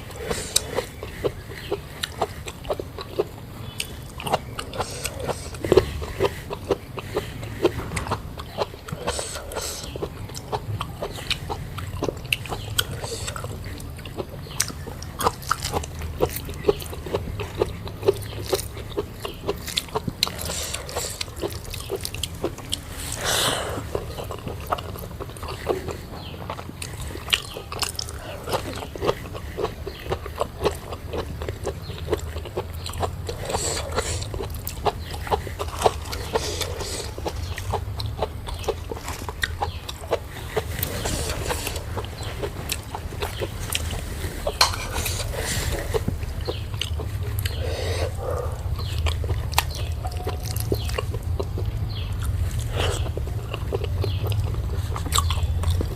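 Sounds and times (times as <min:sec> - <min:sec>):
chewing with wet mouth clicks: 0:00.0 - 0:55.9
mouth smacks: 0:00.0 - 0:55.9.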